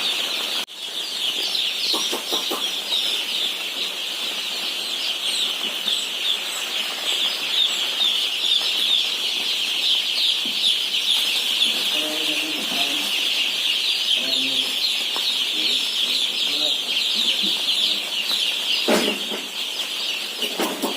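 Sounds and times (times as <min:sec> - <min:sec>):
chicks peeping: 0:00.0 - 0:20.9.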